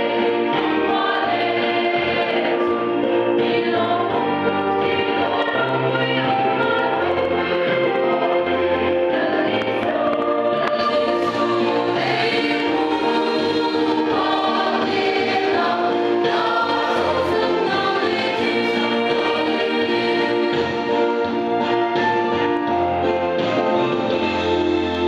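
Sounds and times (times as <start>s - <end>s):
mixed choir singing: 0.0s - 22.4s.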